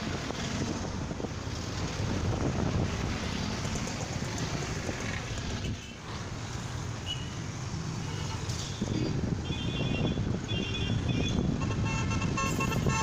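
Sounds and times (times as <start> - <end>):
city road traffic: 0.0 - 13.0.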